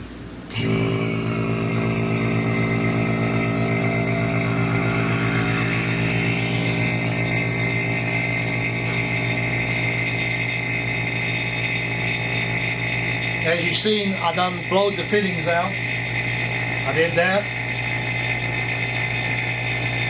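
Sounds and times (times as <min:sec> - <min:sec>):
vacuum pump humming and whining: 0:00.0 - 0:20.0.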